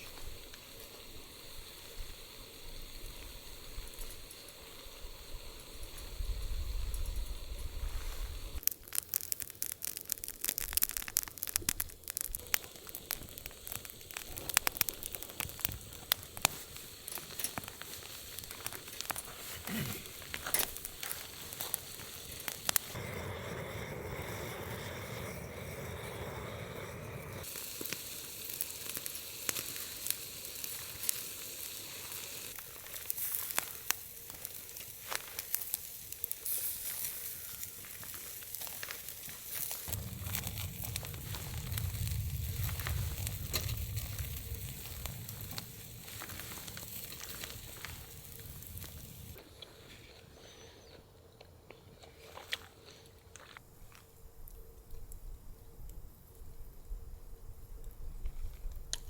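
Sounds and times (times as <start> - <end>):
food sizzling in a pan: 0.0 - 49.4.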